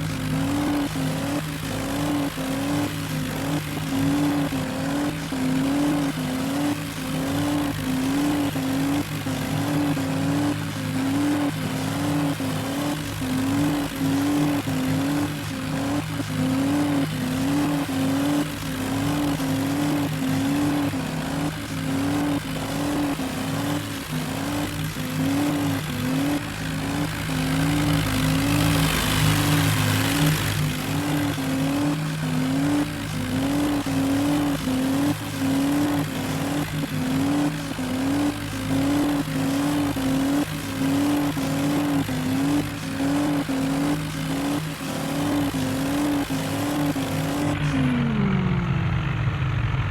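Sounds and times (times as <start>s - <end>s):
tractor diesel engines under load: 0.0s - 49.9s.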